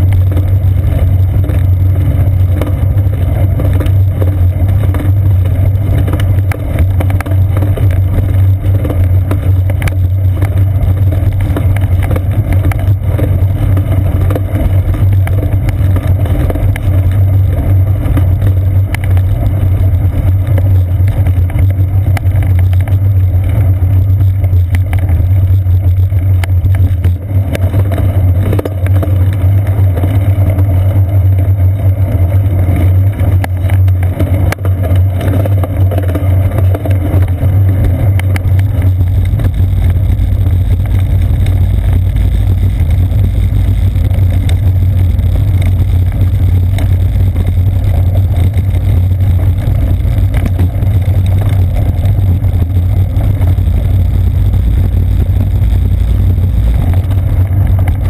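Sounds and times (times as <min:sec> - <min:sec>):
bicycle tyres rolling on pavement: 0:00.0 - 0:58.0
wind rumble: 0:00.0 - 0:58.0.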